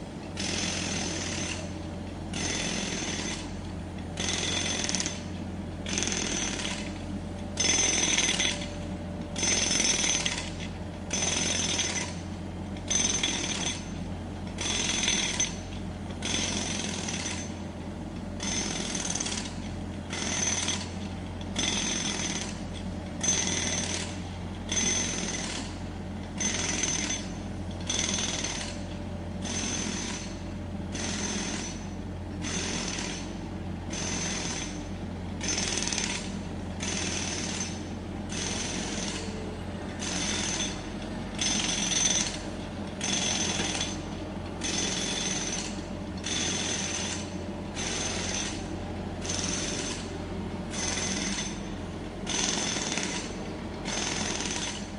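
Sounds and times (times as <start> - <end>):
low drone of machinery: 0.0 - 54.9
jackhammer hammering with ringing: 0.4 - 8.8, 9.4 - 17.8, 18.4 - 54.9.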